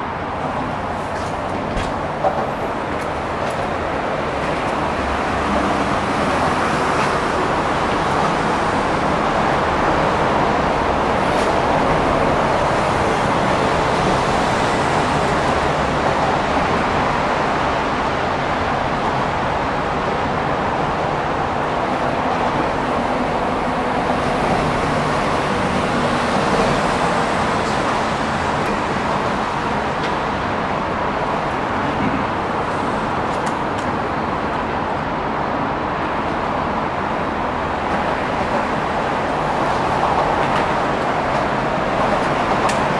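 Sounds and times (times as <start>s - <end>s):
steady traffic hum: 0.0s - 42.9s.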